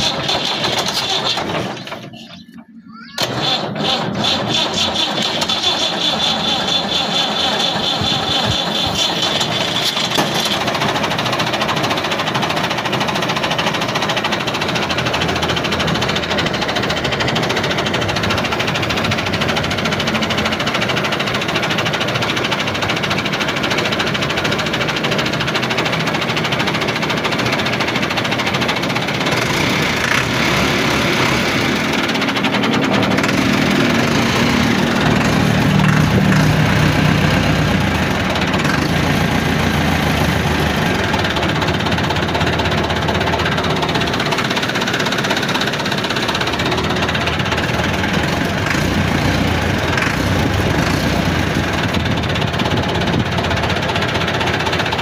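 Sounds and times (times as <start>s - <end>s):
engine running with knocking rattle: 0.0s - 55.0s.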